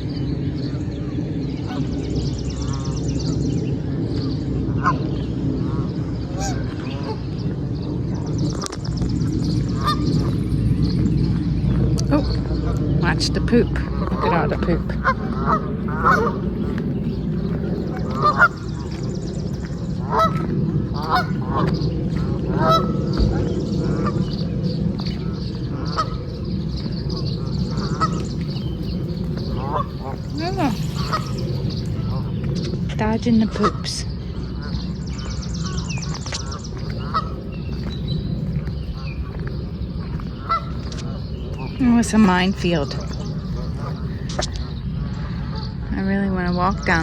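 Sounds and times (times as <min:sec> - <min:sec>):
low background rush: 0:00.0 - 0:47.0
geese honking: 0:04.6 - 0:07.4, 0:09.5 - 0:11.0, 0:12.0 - 0:47.0.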